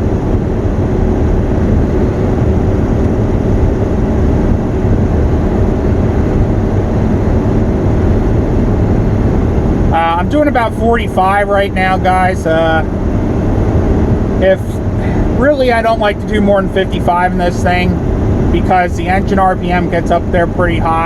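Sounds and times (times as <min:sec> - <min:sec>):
diesel engine pulling steadily: 0:00.0 - 0:21.0
road noise: 0:00.0 - 0:21.0.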